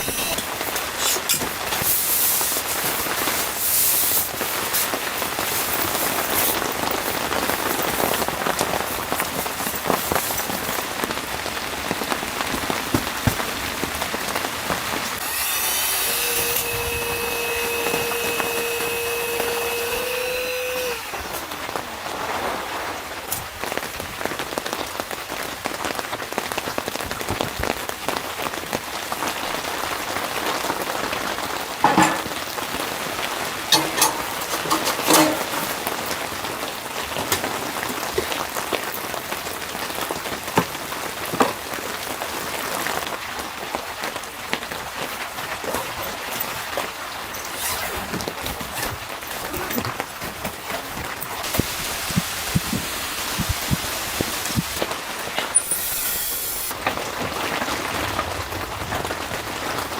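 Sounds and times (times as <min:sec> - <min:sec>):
rain pattering: 0:00.0 - 0:15.2, 0:21.1 - 0:55.6, 0:56.7 - 0:59.9.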